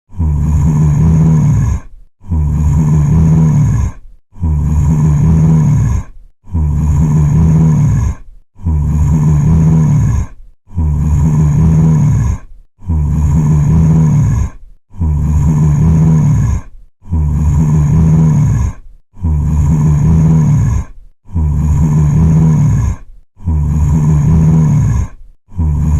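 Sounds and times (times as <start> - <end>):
zombie groan: 0.1 - 25.9.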